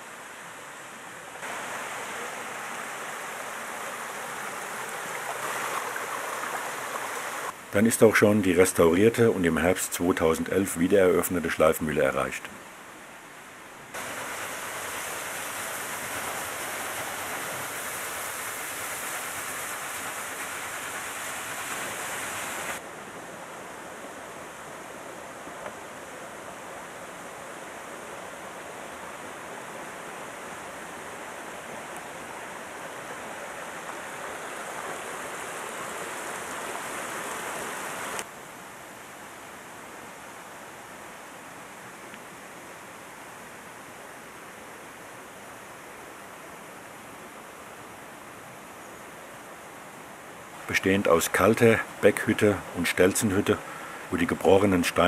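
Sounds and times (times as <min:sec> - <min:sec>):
rushing mountain stream: 0:00.0 - 0:55.0.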